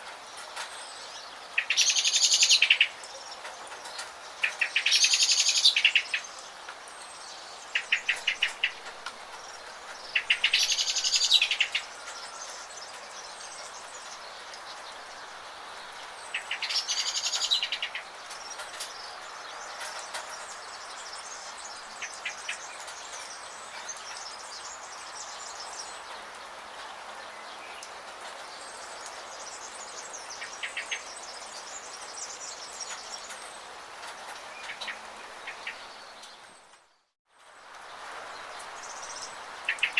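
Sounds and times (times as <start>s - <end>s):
rain hissing: 0.0s - 39.9s
songbirds chirping and singing: 0.3s - 36.8s, 38.0s - 39.9s.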